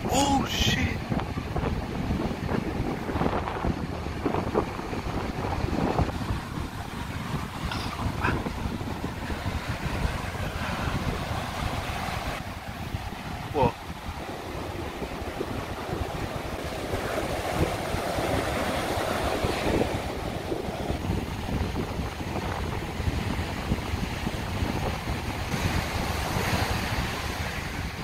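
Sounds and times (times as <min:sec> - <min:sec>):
ocean surf on beach: 0:00.0 - 0:28.0
wind buffeting microphone: 0:00.0 - 0:28.0.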